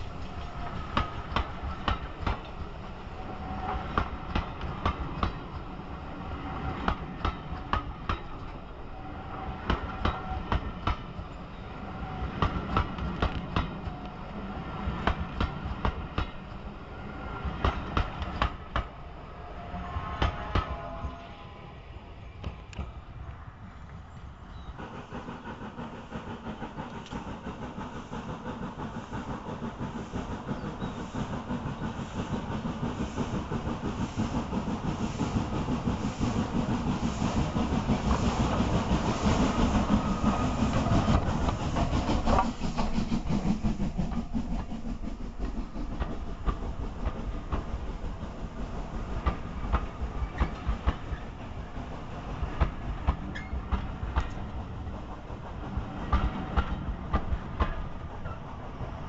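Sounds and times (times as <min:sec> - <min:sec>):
train wheels clicking over rail joints: 0:00.0 - 0:08.8, 0:09.6 - 0:14.2, 0:14.8 - 0:16.7, 0:17.4 - 0:19.0, 0:24.2 - 0:59.0
steam locomotive exhaust beats: 0:00.0 - 0:59.0.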